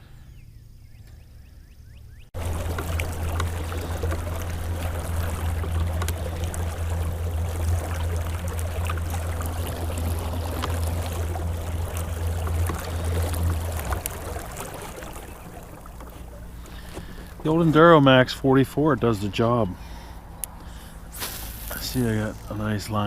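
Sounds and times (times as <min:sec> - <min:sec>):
electric boat motor humming: 0:01.8 - 0:23.0
water rushing and splashing: 0:02.4 - 0:23.0.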